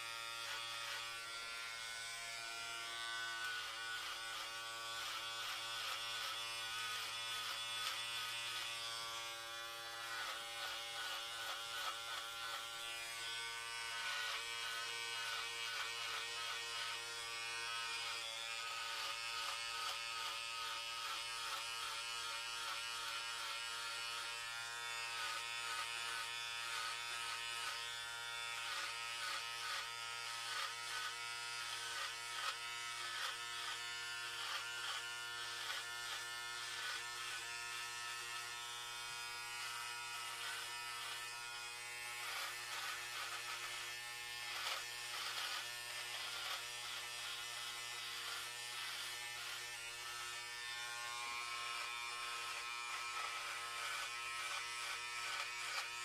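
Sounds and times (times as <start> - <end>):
electric hair clippers buzzing: 0.0 - 56.0.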